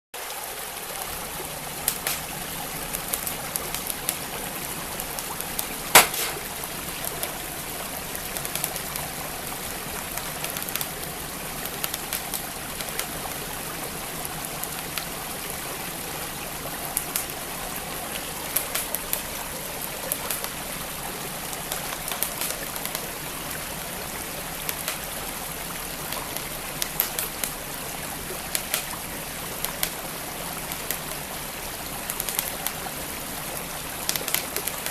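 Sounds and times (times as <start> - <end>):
flowing stream: 0.2 - 34.9
fire crackling and popping: 1.0 - 15.8, 16.6 - 17.5, 18.4 - 31.3, 32.1 - 32.8, 34.0 - 34.9.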